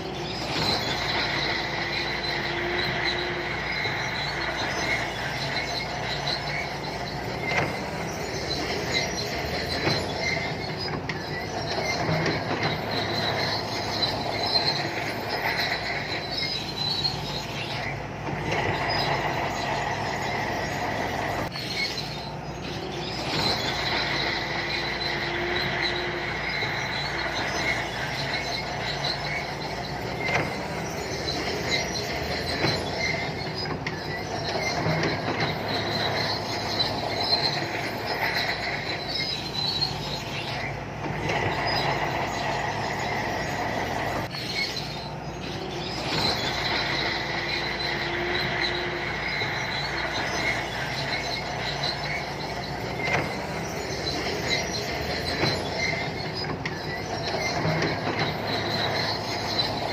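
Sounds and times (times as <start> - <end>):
bulldozer diesel engine running: 0.0 - 59.9
steel tracks squealing and clanking: 0.0 - 59.9.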